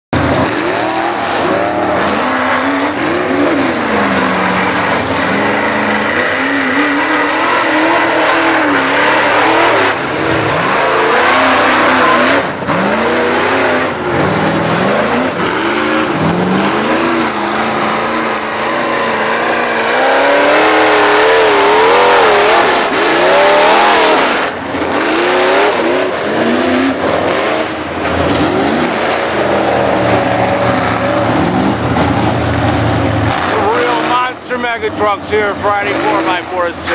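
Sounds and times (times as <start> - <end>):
truck engine revving: 0.1 - 36.9.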